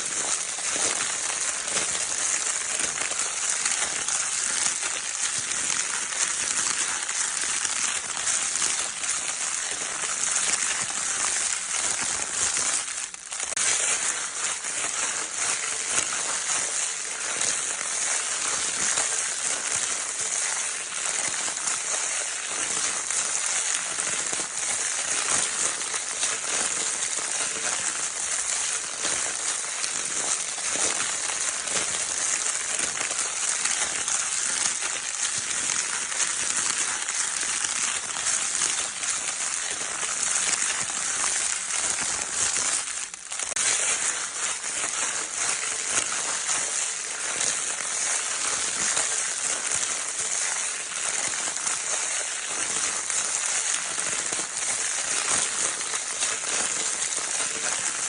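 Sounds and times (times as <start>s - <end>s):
crinkle paper toy crackling: 0.0s - 58.0s.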